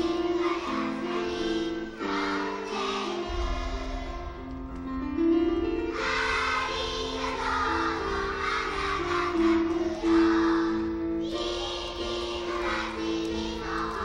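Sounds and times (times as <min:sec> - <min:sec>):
children's choir singing: 0:00.0 - 0:14.0
grand piano accompaniment: 0:00.0 - 0:14.0.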